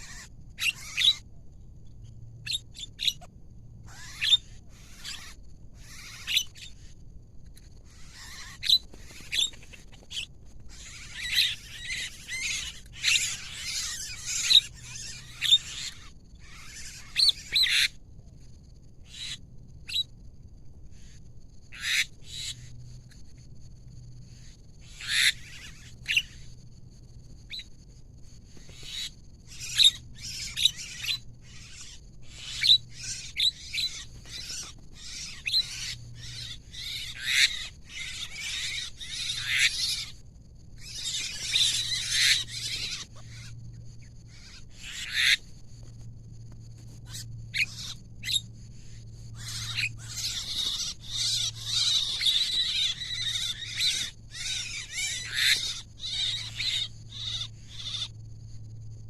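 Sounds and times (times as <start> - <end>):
mynas calling: 0.0 - 1.2, 2.4 - 7.0, 7.7 - 18.0, 19.0 - 20.1, 21.0 - 22.7, 24.4 - 26.5, 28.6 - 40.2, 40.8 - 45.6, 47.0 - 58.2.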